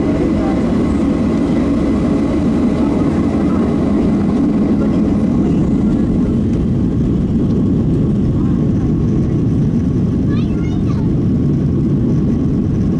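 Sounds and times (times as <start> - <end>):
jet engines low rumble: 0.0 - 12.9.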